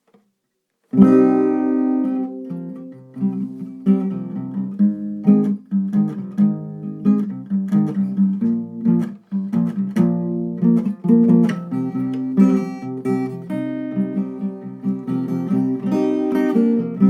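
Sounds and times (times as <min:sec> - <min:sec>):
acoustic guitar strumming: 0:00.9 - 0:17.0.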